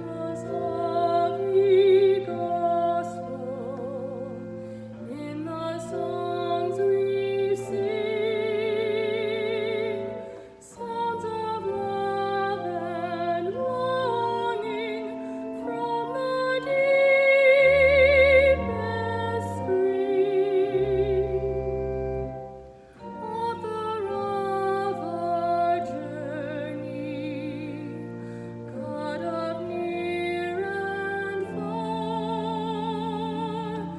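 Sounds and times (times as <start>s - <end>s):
low sustained accompaniment: 0.0s - 33.9s
person singing with vibrato: 0.0s - 33.9s.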